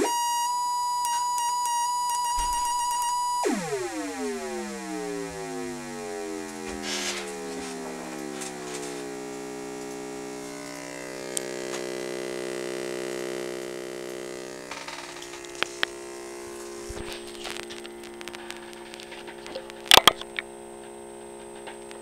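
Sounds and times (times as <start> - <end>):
buzzy square-wave tone: 0.0 - 22.0.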